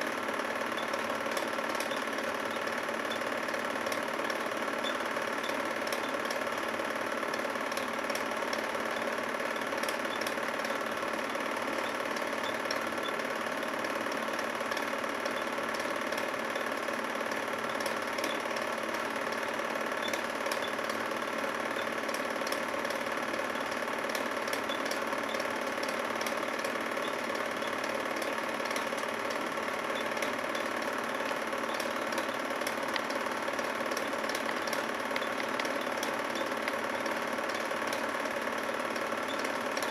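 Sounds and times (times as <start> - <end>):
faint projector ticking: 0.0 - 39.9
film projector whirring: 0.0 - 39.9.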